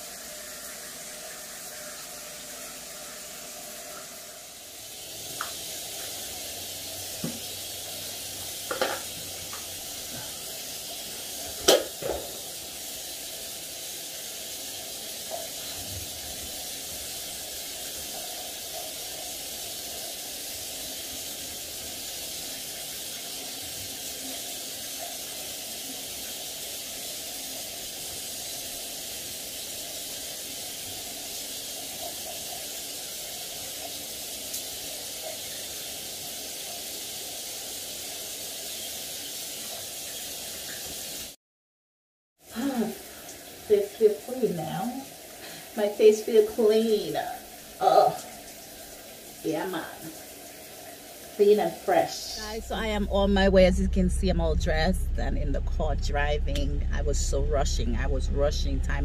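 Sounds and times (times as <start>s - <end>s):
shower spray running: 0.0s - 41.4s, 42.4s - 59.0s.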